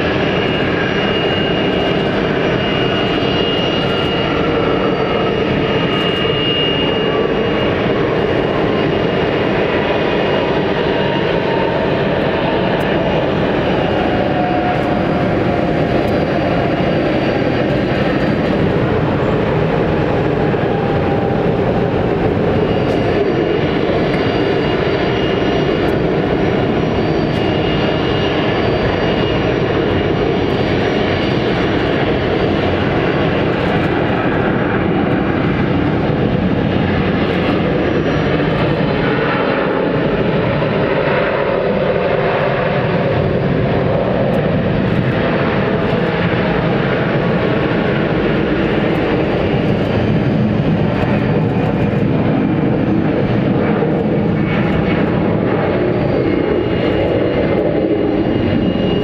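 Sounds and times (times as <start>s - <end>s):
jet engines rumbling on landing: 0.0s - 59.0s.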